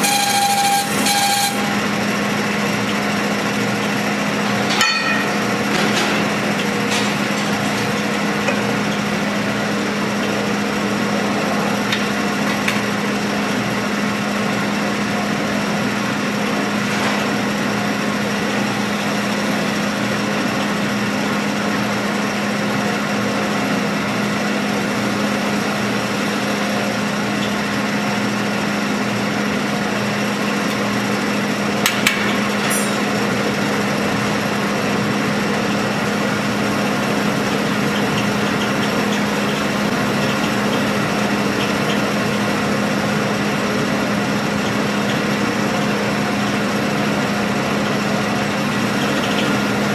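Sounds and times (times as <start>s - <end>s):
lathe humming: 0.0s - 49.9s.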